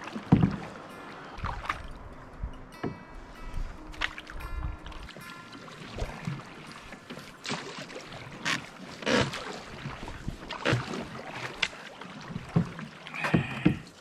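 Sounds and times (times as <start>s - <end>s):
moving water wash: 0.0s - 14.0s
paddle strokes in water: 0.0s - 14.0s.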